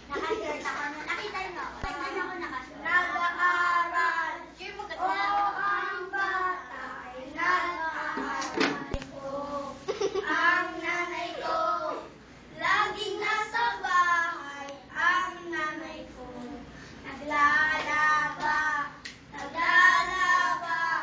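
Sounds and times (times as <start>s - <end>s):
young children singing: 1.8s - 21.0s.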